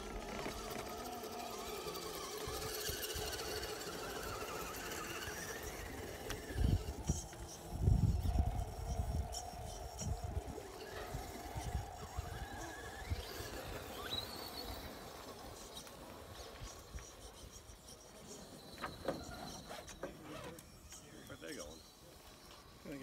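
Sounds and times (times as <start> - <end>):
toy car motor whining: 0.0 - 23.0.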